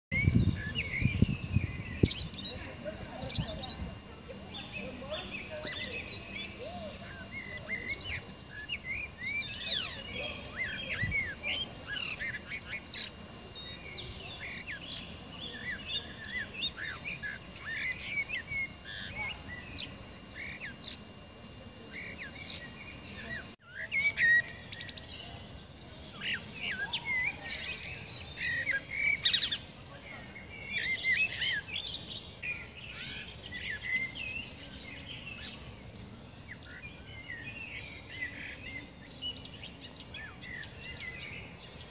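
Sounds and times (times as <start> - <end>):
blackbird singing: 0.1 - 41.9.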